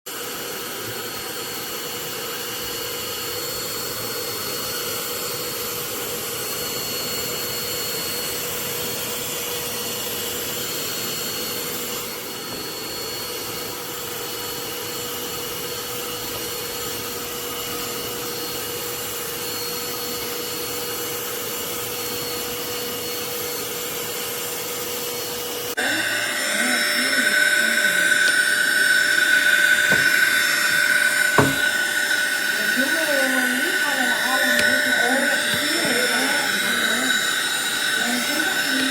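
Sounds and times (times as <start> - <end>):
handheld vacuum whining: 0.1 - 38.9.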